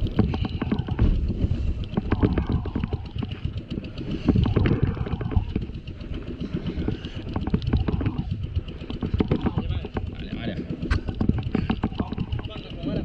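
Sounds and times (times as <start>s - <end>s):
boat engine chugging: 0.0s - 13.0s
rattling knocks: 0.0s - 13.0s.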